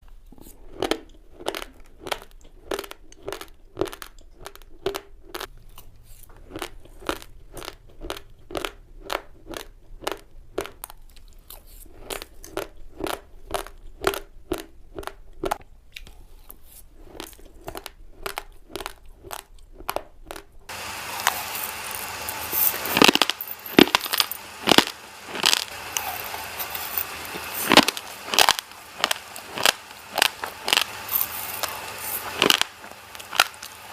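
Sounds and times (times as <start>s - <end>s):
raw rice being chewed: 0.0s - 33.9s.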